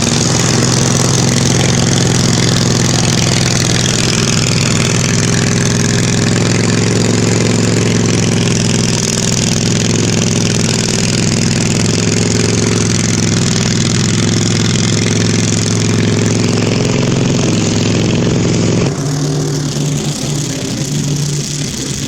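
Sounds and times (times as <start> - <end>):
mower engine running loud: 0.0 - 22.0.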